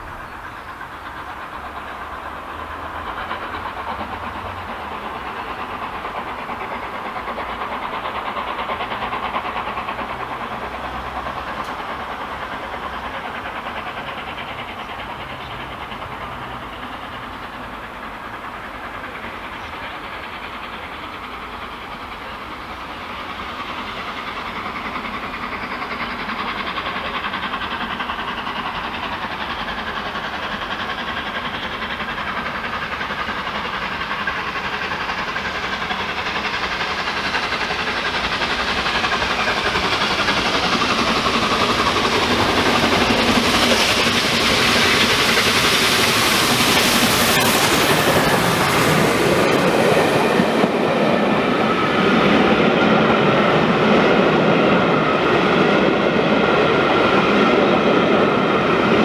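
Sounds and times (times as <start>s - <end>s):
rush of steam: 0.0s - 59.0s
steam locomotive passing: 0.0s - 59.0s.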